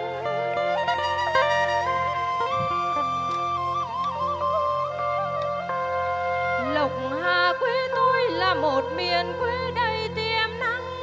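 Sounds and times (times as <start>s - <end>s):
sliding folk melody: 0.0s - 11.0s.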